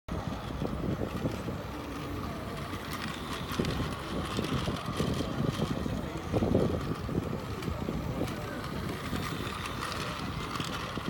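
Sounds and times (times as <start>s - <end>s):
wind rumbling on microphone: 0.1s - 11.0s
toy train motor whirring: 0.2s - 11.0s.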